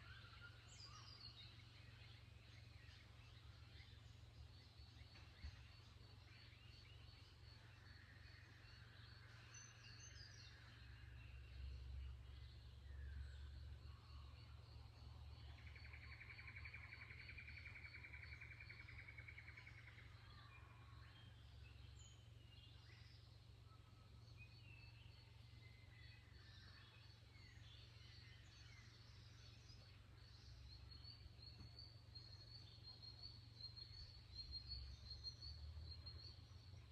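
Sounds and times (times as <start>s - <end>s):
faint birdsong: 0.0s - 36.9s.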